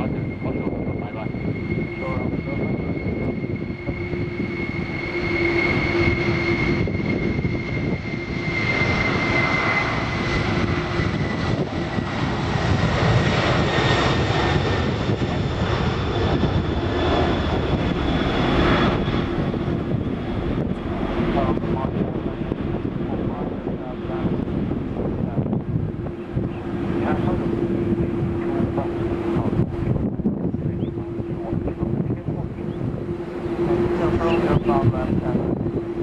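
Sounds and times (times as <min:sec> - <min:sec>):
jet engines rumbling and whining: 0:00.0 - 0:36.0.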